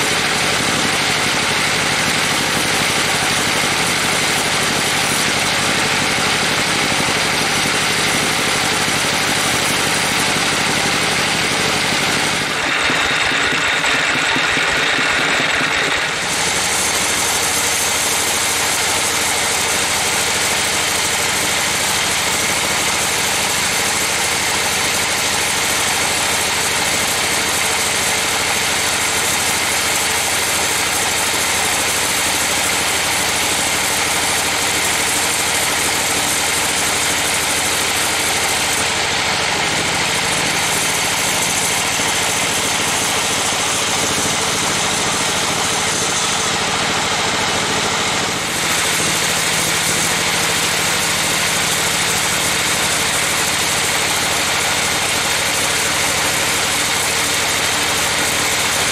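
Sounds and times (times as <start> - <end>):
band saw cutting through log: 0.0 - 58.9.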